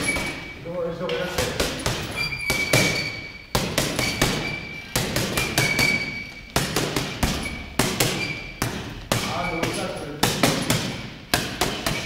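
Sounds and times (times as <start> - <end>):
punches thudding on heavy bag: 1.2 - 12.0.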